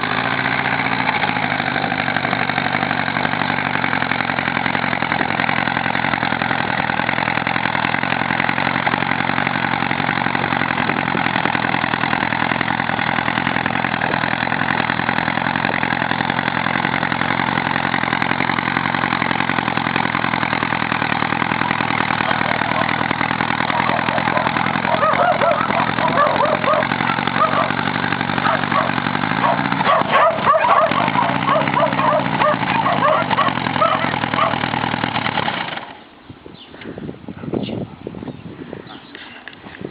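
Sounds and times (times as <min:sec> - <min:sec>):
car engine running steadily: 0:00.0 - 0:35.4.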